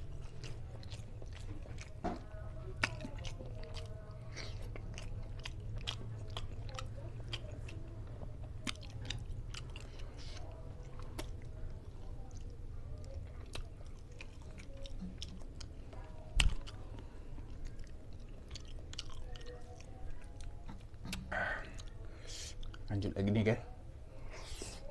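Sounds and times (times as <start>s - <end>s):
wet chewing and lip smacking: 0.0s - 22.9s.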